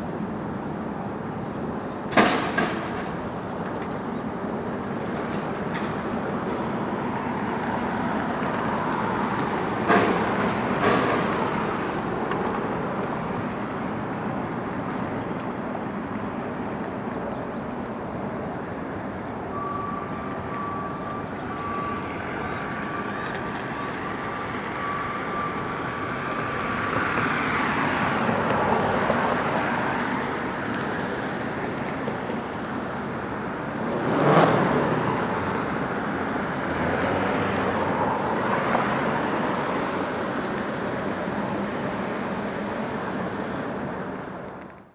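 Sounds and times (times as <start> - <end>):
vehicles passing: 0.0 - 44.9.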